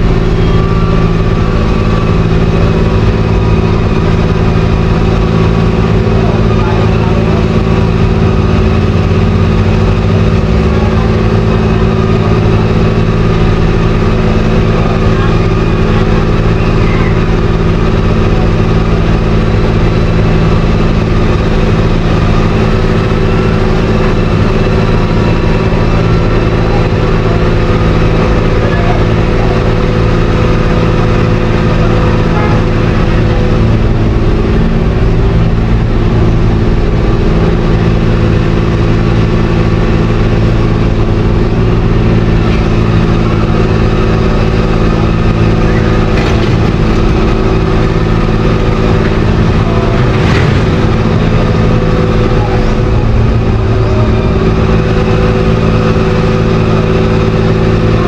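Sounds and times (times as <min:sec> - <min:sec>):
heavy diesel engine humming: 0:00.0 - 0:58.0.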